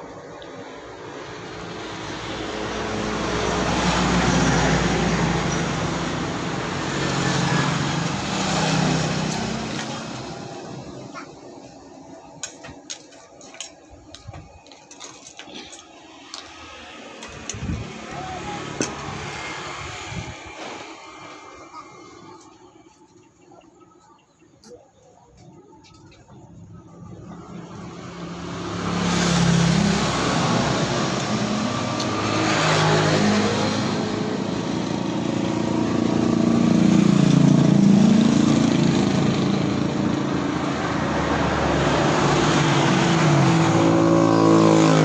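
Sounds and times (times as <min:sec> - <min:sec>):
vehicle passing by: 0:00.0 - 0:11.6, 0:16.1 - 0:23.0, 0:26.4 - 0:45.0.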